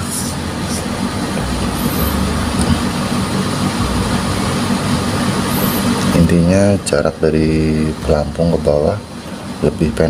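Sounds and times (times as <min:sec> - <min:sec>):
mechanical hum with hiss: 0:00.0 - 0:10.0.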